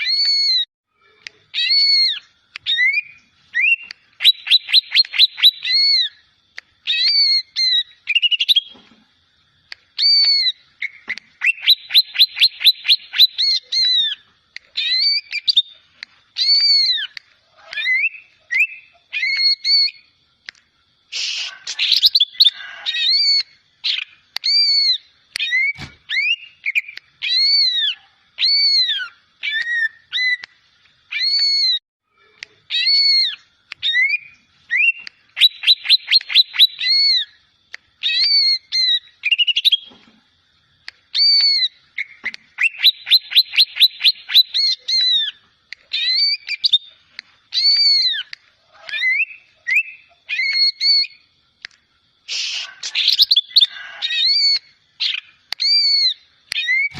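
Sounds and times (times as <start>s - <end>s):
bird whistling song with trills: 1.5s - 6.2s, 6.8s - 8.8s, 10.0s - 15.8s, 16.4s - 20.1s, 21.2s - 31.8s, 32.7s - 37.4s, 38.0s - 39.9s, 41.1s - 51.3s, 52.3s - 56.9s.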